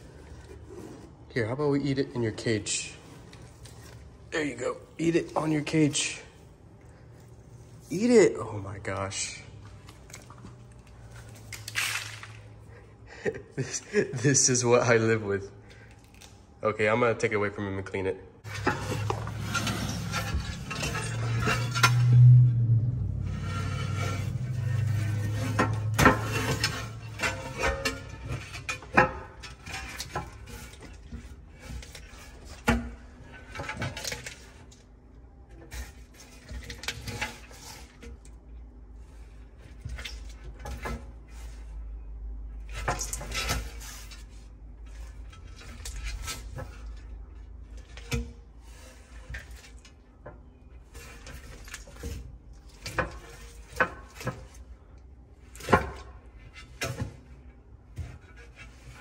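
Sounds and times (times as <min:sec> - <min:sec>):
irregular knocks and scrapes: 0:00.0 - 0:08.0, 0:18.4 - 0:34.8, 0:35.4 - 0:59.0.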